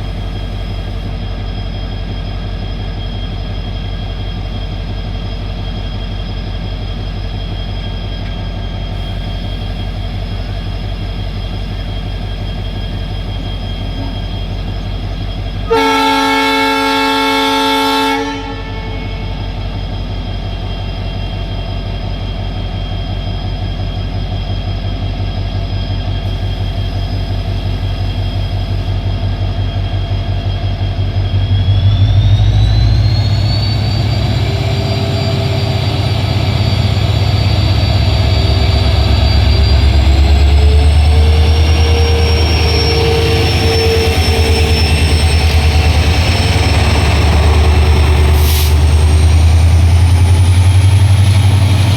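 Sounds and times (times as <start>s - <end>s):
diesel locomotive engine throbbing: 0.0s - 51.9s
turbocharger whine: 0.0s - 51.9s.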